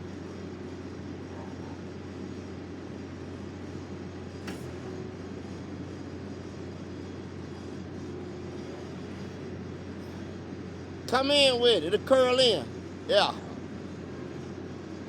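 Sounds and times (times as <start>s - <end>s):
track loader running: 0.0s - 15.0s.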